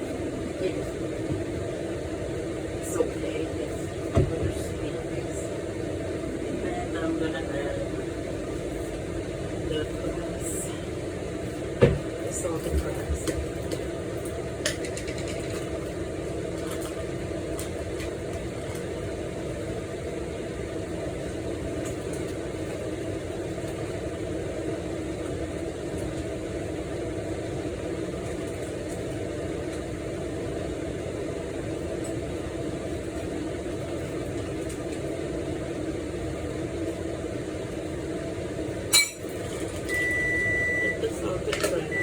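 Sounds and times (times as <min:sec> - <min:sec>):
appliance fan humming: 0:00.0 - 0:42.0.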